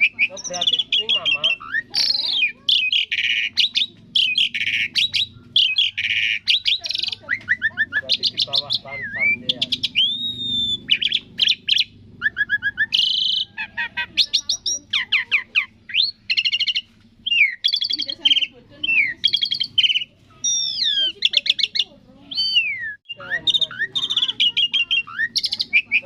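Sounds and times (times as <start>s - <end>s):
starling singing: 0.0s - 26.0s.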